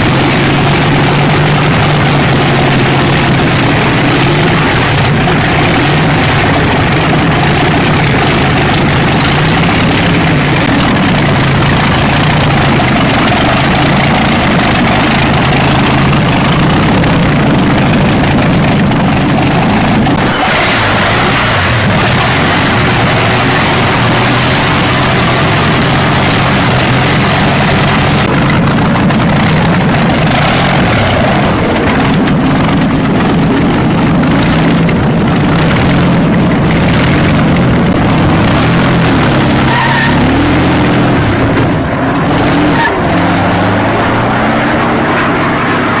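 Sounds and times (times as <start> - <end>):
car engine running loud: 0.0 - 46.0.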